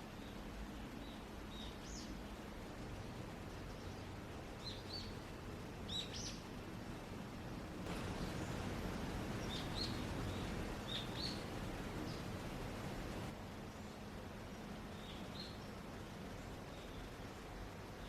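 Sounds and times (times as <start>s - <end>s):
small birds chirping: 0.0s - 6.5s, 7.9s - 18.0s
background hiss and hum: 0.0s - 18.0s.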